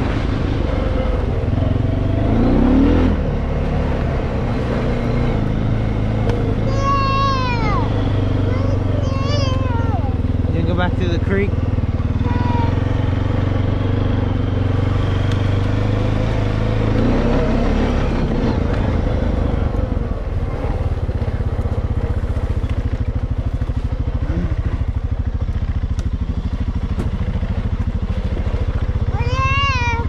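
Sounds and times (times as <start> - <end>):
atv engine running and idling: 0.0 - 30.0.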